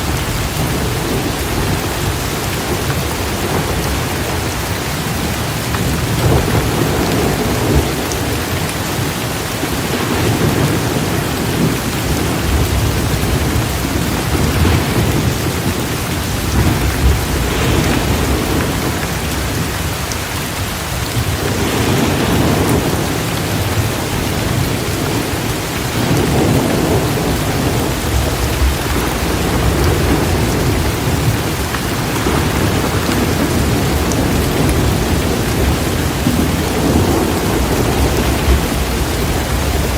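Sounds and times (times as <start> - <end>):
rolling thunder: 0.0 - 20.0, 21.1 - 39.9
torrential rain pouring: 0.0 - 39.9.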